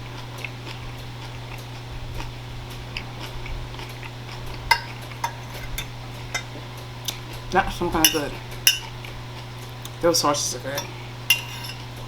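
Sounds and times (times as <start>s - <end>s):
wet chewing sounds: 0.0s - 10.0s
steady low hum: 0.0s - 12.0s.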